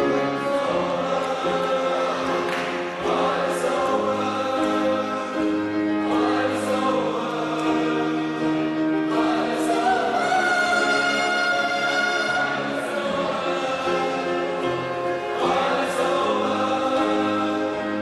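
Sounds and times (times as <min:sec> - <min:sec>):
group singing in chorus: 0:00.0 - 0:18.0.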